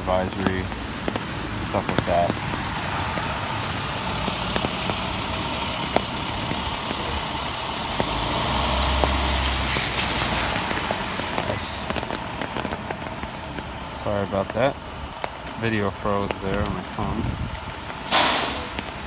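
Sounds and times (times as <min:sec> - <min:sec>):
traffic: 0:00.0 - 0:19.0
wind: 0:00.0 - 0:19.0.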